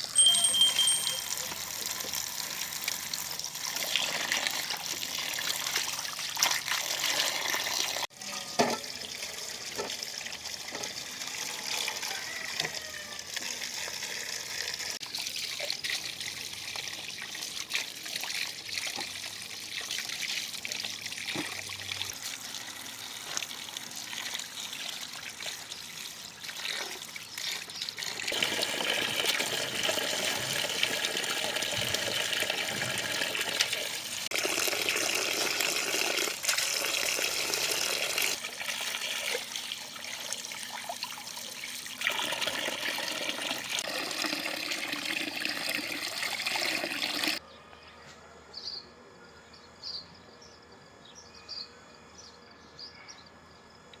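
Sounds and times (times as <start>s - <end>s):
water running and trickling: 0.0s - 47.4s.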